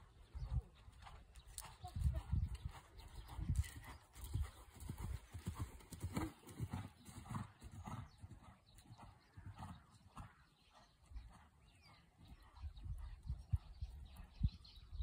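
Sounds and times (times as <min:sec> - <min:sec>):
horse hoofbeats on sand: 0:01.0 - 0:13.6.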